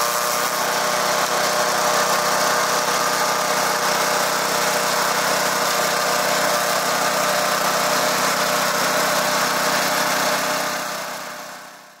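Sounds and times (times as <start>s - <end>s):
chaff cutter machine droning: 0.0s - 11.9s.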